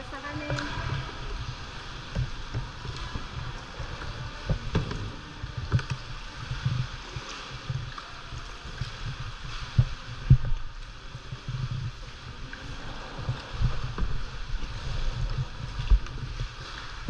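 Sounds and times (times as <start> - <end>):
sea water lapping in a cave: 0.0 - 17.0.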